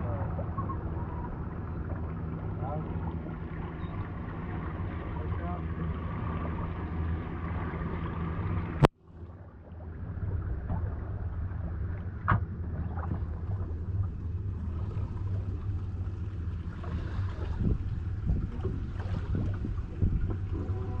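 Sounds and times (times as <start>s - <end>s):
boat engine running: 0.0s - 21.0s
water noise: 0.0s - 21.0s
wind: 0.0s - 21.0s.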